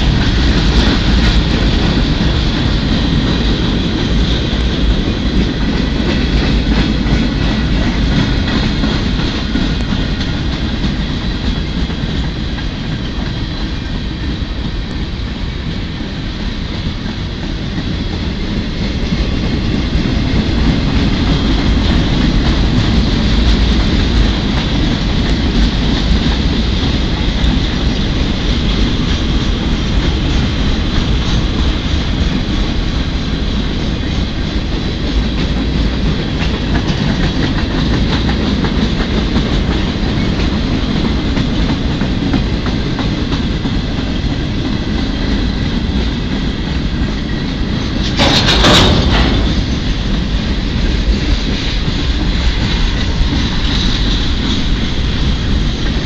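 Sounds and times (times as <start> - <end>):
freight train rumbling past: 0.0 - 56.0
wheels clickety-clack over rail joints: 0.0 - 56.0.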